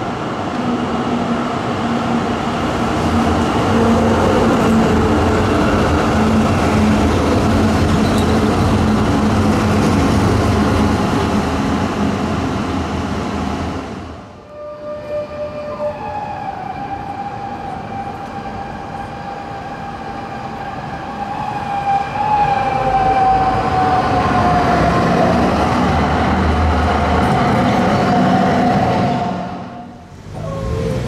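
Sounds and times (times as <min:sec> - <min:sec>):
tram low rumble: 0:00.0 - 0:31.0
tram high whistling tone: 0:00.5 - 0:11.4, 0:14.3 - 0:31.0.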